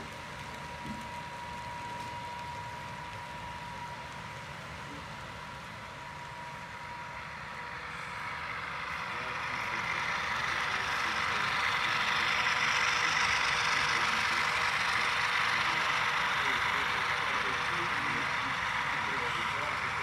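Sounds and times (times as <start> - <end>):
model diesel locomotive running: 0.0 - 20.0.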